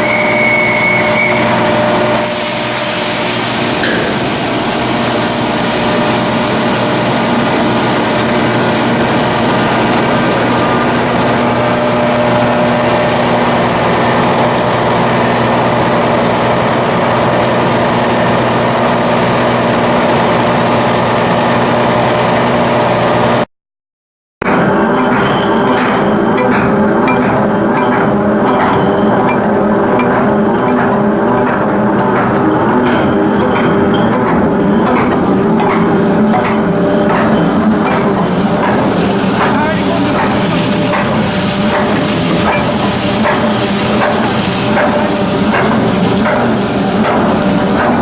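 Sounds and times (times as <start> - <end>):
ship diesel engine running: 0.0 - 23.4, 24.5 - 48.0.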